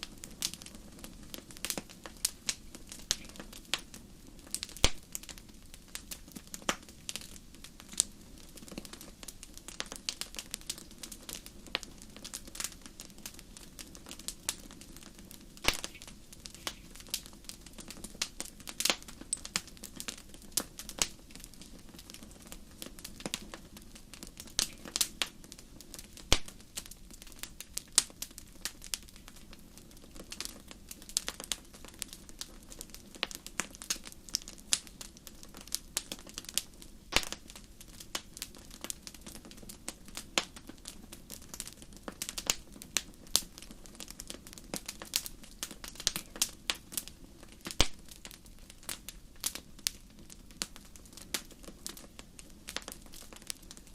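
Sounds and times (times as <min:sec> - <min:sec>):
low rush of flames: 0:00.0 - 0:53.9
wood fire crackling: 0:00.0 - 0:53.9.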